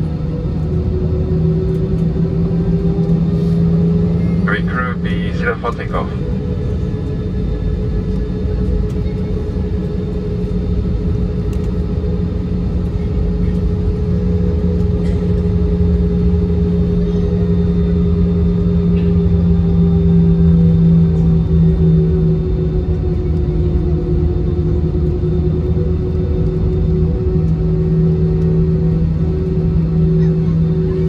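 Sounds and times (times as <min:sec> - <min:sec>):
jet engine hum from cabin: 0:00.0 - 0:31.0.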